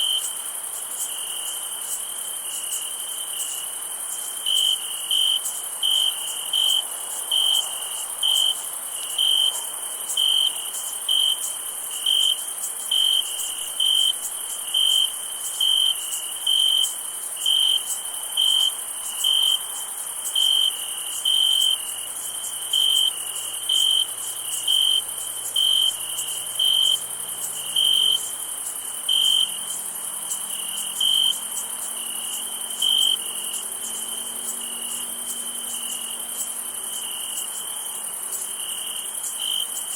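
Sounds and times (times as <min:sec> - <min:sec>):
cricket chirping: 0:00.0 - 0:39.9
high-pitched insect chorus: 0:00.0 - 0:39.9.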